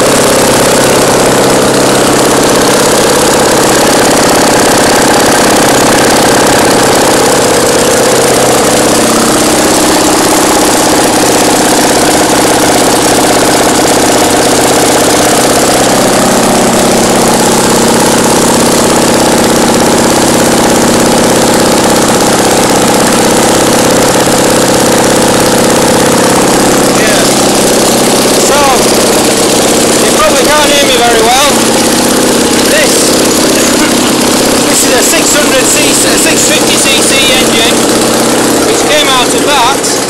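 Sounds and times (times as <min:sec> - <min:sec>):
engine running steadily: 0:00.0 - 0:40.0.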